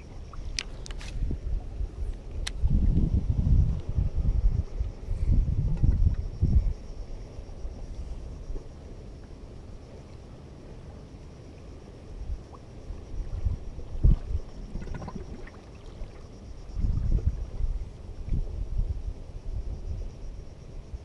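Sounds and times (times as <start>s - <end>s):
wind buffeting microphone: 0.0s - 8.8s, 12.1s - 21.0s.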